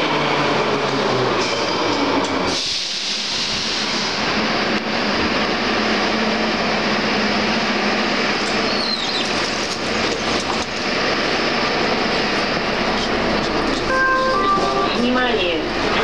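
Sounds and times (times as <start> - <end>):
train equipment running noise: 0.8 - 16.0.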